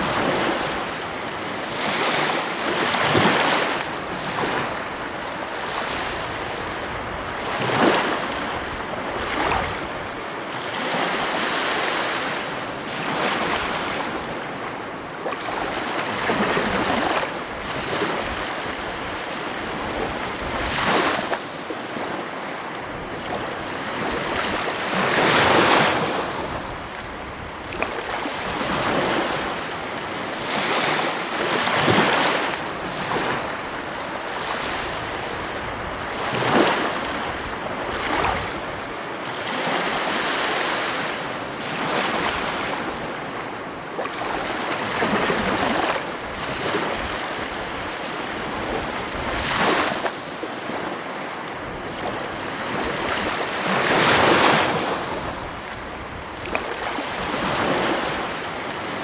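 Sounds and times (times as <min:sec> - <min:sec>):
wind on microphone: 0:00.0 - 0:40.2, 0:41.0 - 0:59.0
ocean waves crashing: 0:00.0 - 0:59.0.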